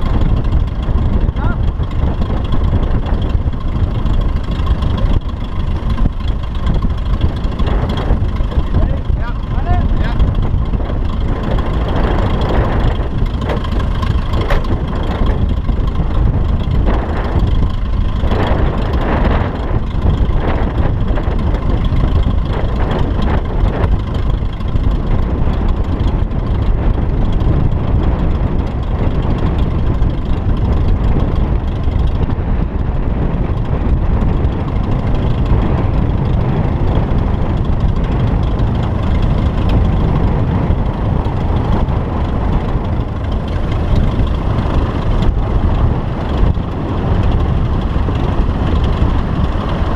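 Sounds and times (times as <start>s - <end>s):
small plane engine and propeller: 0.0s - 49.9s
wind rumble on microphone: 0.0s - 49.9s.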